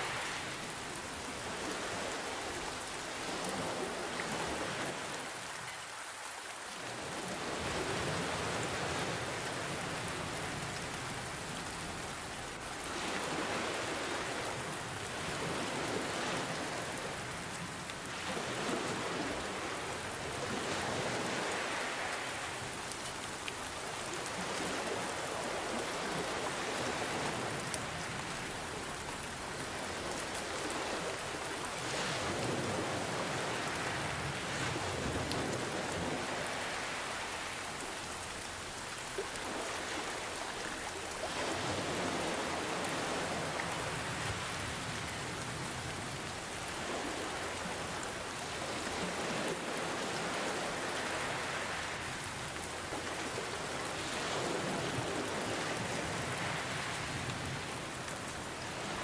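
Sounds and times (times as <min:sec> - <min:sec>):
gentle ocean waves: 0:00.0 - 0:59.0
steady rain falling: 0:00.0 - 0:59.0.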